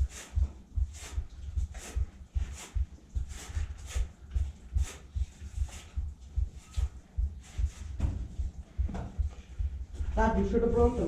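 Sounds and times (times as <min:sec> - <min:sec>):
footsteps with scuffs and scrapes: 0:00.0 - 0:10.2.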